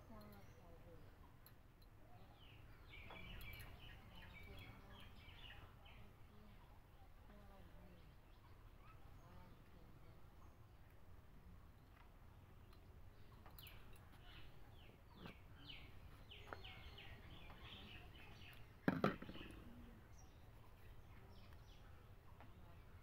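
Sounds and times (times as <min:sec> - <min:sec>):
faint low hum: 0:00.0 - 0:23.0
bird chirping: 0:02.0 - 0:10.7, 0:11.7 - 0:23.0.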